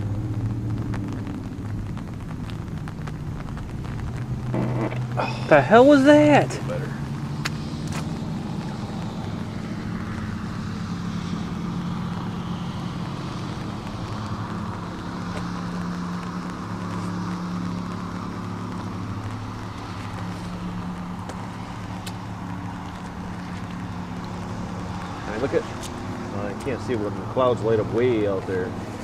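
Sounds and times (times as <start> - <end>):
boat motor humming: 0.0 - 29.0
water noise: 0.0 - 29.0
wind: 0.0 - 29.0.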